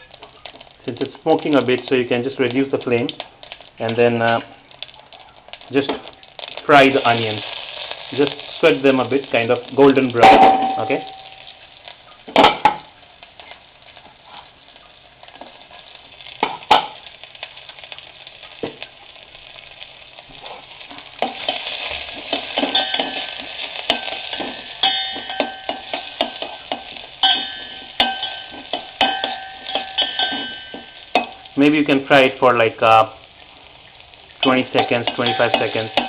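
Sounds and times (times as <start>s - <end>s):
onions sizzling in hot oil: 0.0s - 36.0s.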